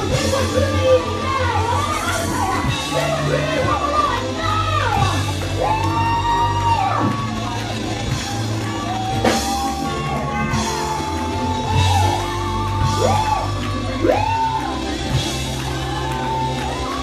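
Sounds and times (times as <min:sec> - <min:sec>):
bass notes: 0:00.0 - 0:17.0
gospel band music: 0:00.0 - 0:17.0
voices shouting and whooping: 0:00.1 - 0:17.0.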